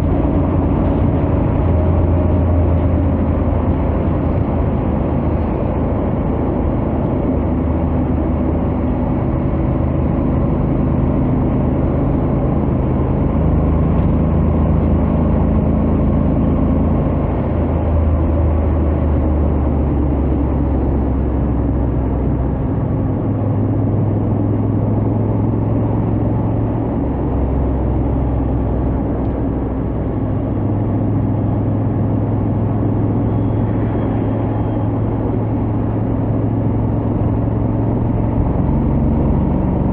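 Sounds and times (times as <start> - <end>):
motorcycle engine at speed: 0.0 - 39.9
wind and road noise: 0.0 - 39.9.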